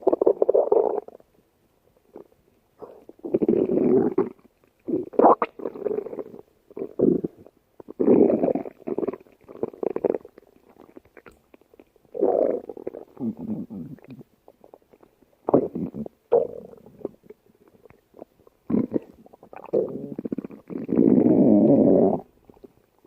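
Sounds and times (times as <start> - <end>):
stomach growling: 2.1 - 22.7.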